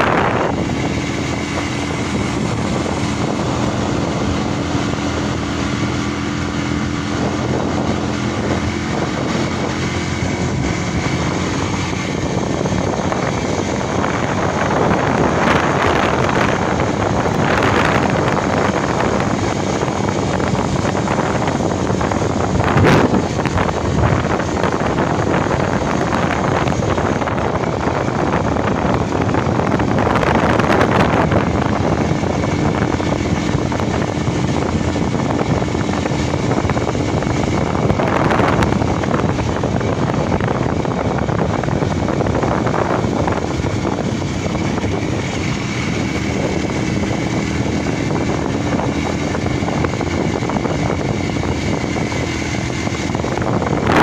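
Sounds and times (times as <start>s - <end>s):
vehicle engine running: 0.0s - 54.0s
wind rushing over microphone: 0.0s - 54.0s.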